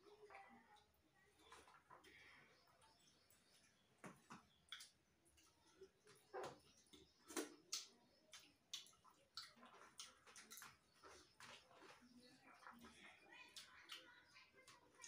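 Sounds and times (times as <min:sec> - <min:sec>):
people eating from steel plates: 0:00.0 - 0:15.0.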